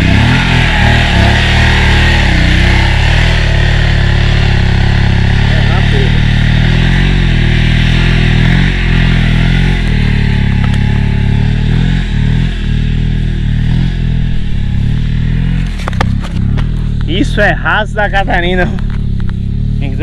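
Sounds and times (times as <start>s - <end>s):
motorcycle engine under load: 0.0s - 20.0s.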